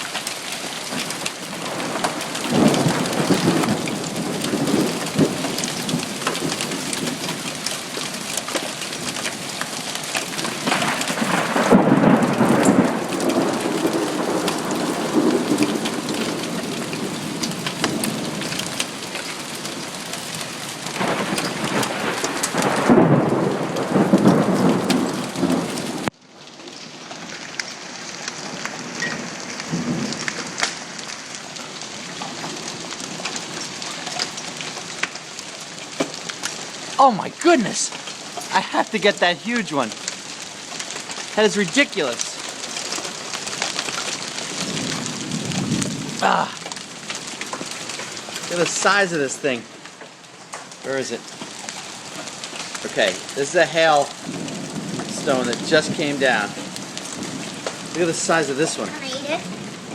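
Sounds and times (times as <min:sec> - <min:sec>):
hailstones clattering on hard surfaces: 0:00.0 - 0:59.9
heavy rain: 0:00.0 - 0:59.9
low thunder rumbles: 0:00.9 - 0:26.2, 0:26.9 - 0:59.9.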